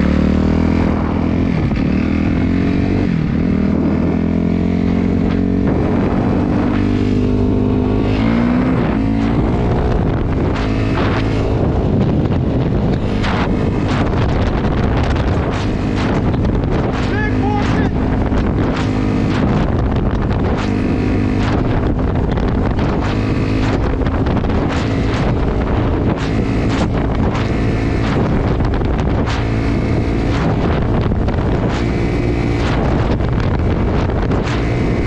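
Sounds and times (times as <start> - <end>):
dirt bike engine revving: 0.0 - 35.0
wind buffeting microphone: 0.0 - 35.0.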